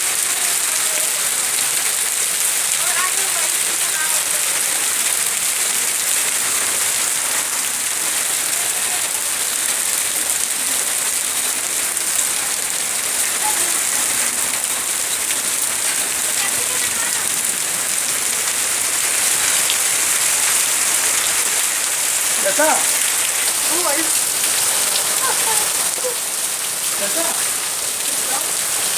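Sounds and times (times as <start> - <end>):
hail and rain pelting down: 0.0 - 28.9.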